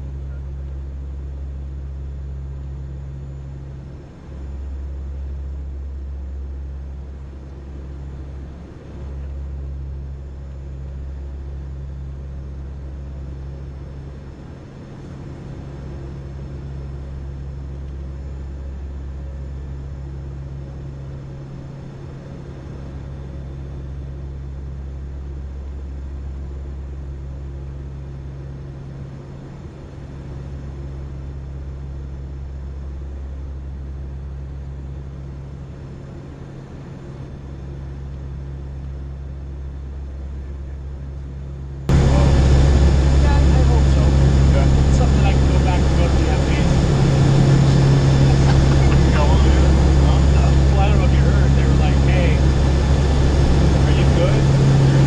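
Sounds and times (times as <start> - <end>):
aircraft engines droning: 0.0 - 55.0.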